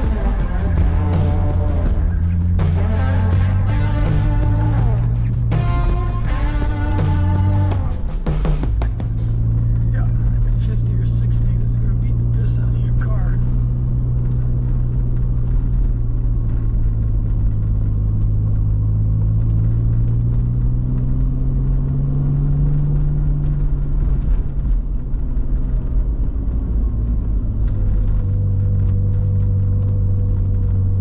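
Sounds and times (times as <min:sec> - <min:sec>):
car engine pulling uphill: 0:00.0 - 0:31.0
steady low rumble: 0:00.0 - 0:31.0.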